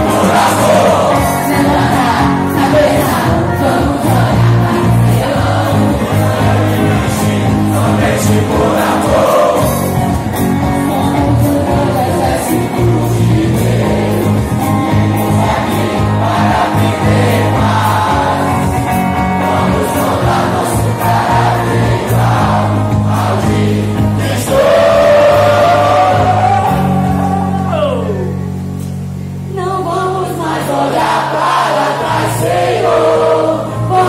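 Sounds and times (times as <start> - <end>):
crowd singing a chant: 0.0 - 27.3, 30.0 - 34.0.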